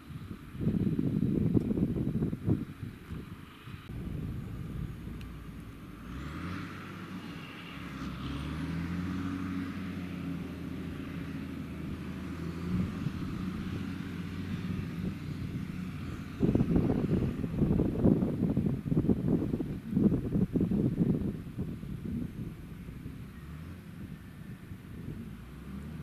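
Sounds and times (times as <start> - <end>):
diesel farm machinery engine: 0.0 - 26.0.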